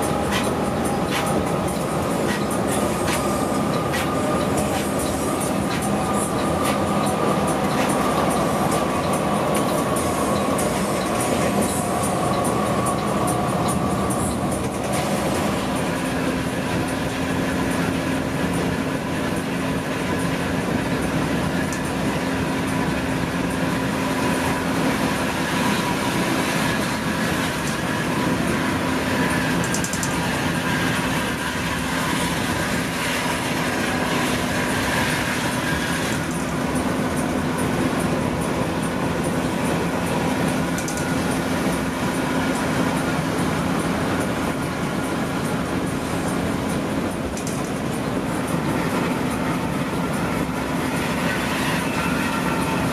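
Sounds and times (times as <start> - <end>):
coach engine drone: 0.0 - 52.9
tyre and road noise: 0.0 - 52.9.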